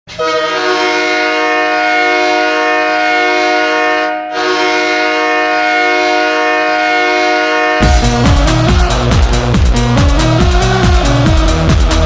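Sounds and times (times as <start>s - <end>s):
goal horn blowing a chord: 0.1s - 12.0s.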